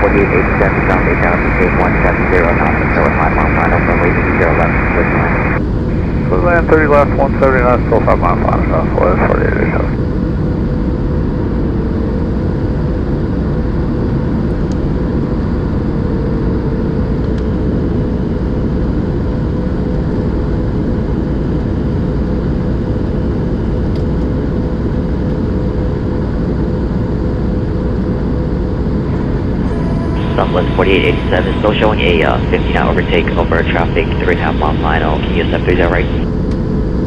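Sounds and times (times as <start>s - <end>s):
faint steady hum: 0.0s - 22.2s, 26.2s - 37.0s
airplane cabin engine rumble: 0.0s - 37.0s.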